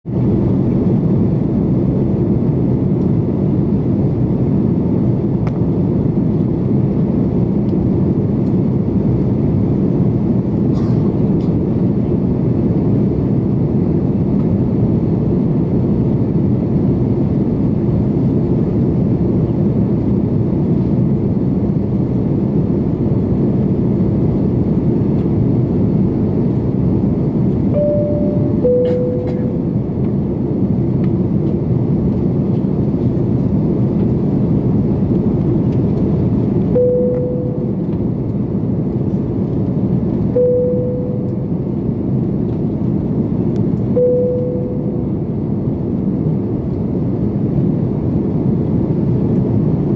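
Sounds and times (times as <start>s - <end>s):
airliner cabin drone: 0.1s - 49.9s.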